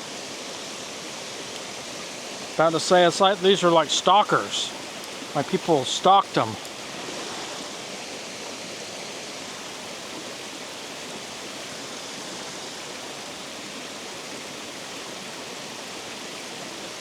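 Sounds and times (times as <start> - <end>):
water pouring over a spillway: 0.0 - 17.0.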